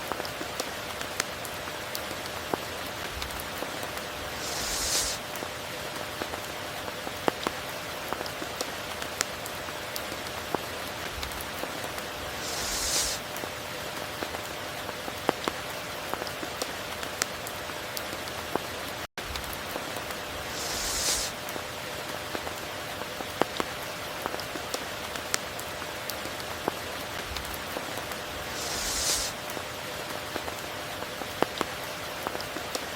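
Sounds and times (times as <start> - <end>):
raindrops ticking close by: 0.0 - 32.9
steady rain falling: 0.0 - 32.9.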